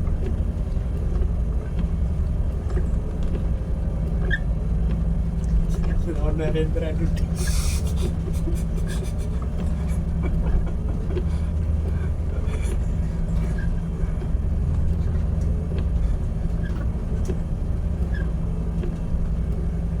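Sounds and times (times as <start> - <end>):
ship engine droning: 0.0 - 20.0
faint clicks and rattles: 0.1 - 20.0.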